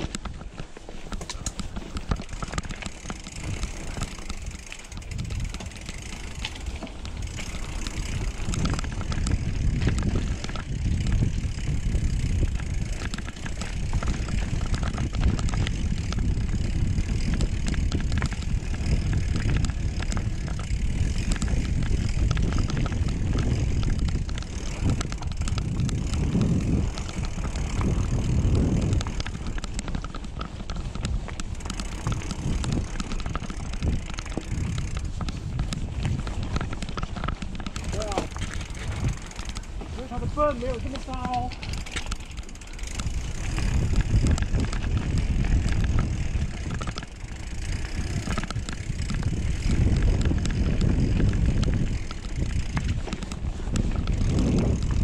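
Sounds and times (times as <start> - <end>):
bike rattling clicks: 0.0 - 55.0
tyres rumbling on dirt: 0.0 - 55.0.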